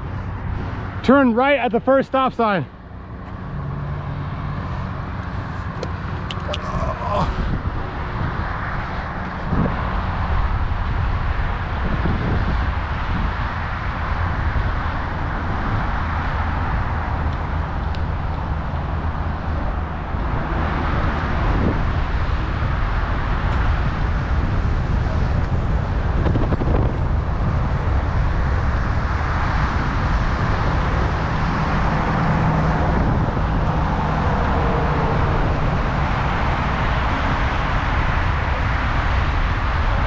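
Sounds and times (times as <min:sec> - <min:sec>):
road traffic passing: 0:00.0 - 0:40.0
wind over microphone: 0:04.4 - 0:40.0.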